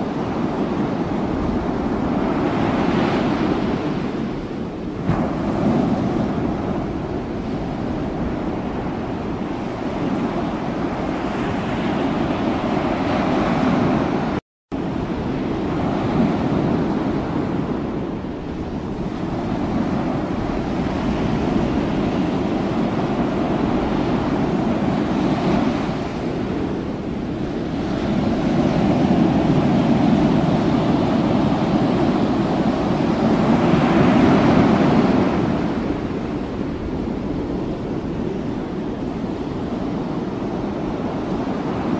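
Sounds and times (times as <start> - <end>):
sea wash: 0.0 - 41.9
wind buffeting microphone: 0.0 - 41.9.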